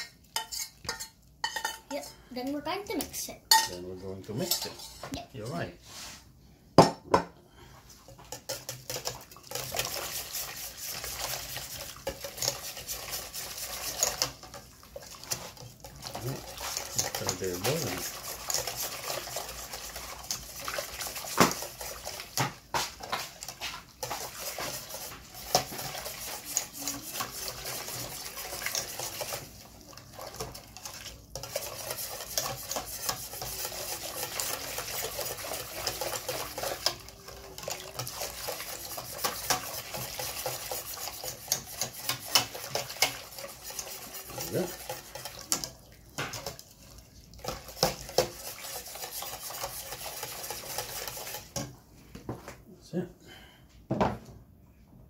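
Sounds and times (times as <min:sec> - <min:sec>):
whisk clinking on pot: 0:00.0 - 0:02.0, 0:03.0 - 0:05.0, 0:08.0 - 0:51.7
whisk rattling and scraping in pot: 0:00.0 - 0:05.7, 0:07.8 - 0:51.8.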